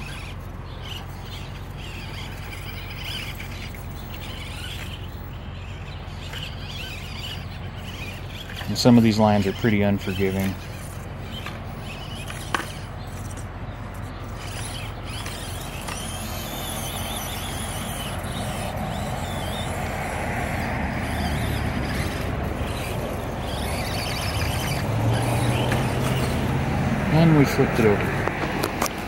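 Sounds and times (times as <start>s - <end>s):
electric motor whirring: 0.0s - 29.0s.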